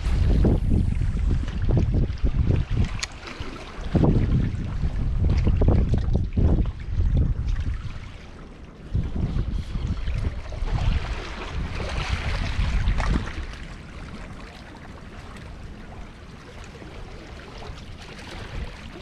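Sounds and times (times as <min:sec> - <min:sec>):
seawater washing against rock: 0:00.0 - 0:19.0
wind buffeting microphone: 0:00.0 - 0:19.0.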